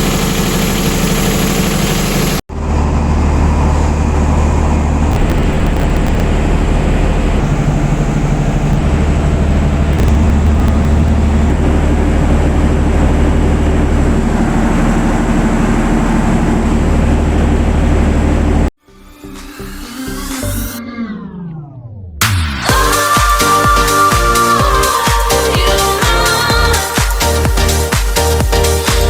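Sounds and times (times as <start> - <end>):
generator running: 0.0 - 19.7, 20.4 - 29.0.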